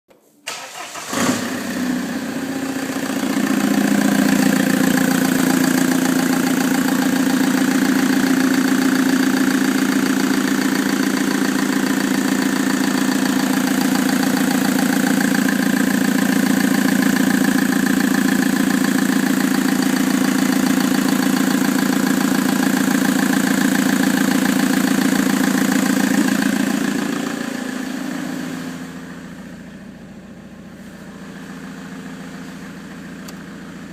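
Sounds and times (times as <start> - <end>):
diesel engine starting and idling: 0.4 - 33.9.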